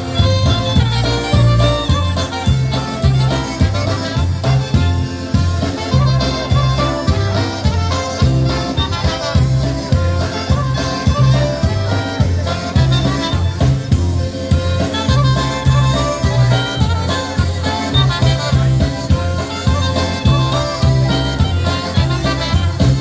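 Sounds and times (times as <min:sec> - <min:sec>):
polka band playing: 0:00.0 - 0:23.0.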